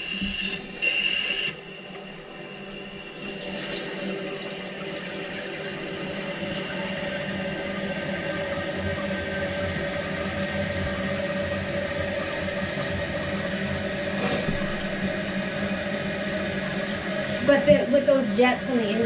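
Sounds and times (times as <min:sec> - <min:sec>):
toilet tank refilling: 0:00.0 - 0:19.0.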